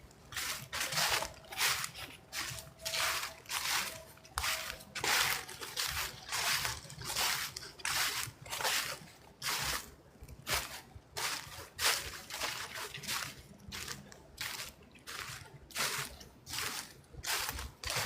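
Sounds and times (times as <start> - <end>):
footsteps crunching through leaves: 0.0 - 18.0.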